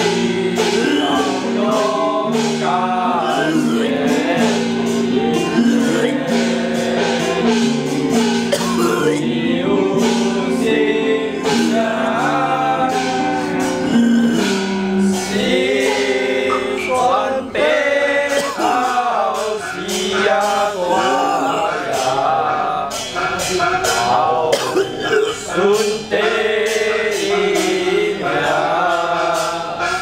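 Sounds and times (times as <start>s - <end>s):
man singing slow melody: 0.0s - 23.0s, 24.0s - 30.0s
held instrumental tones: 0.0s - 30.0s
percussion beat of sharp strikes: 0.0s - 30.0s.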